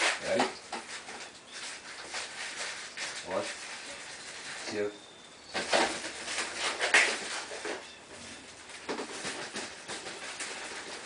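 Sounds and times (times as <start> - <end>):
duct scraping and rustling: 0.0 - 4.9, 5.5 - 11.0.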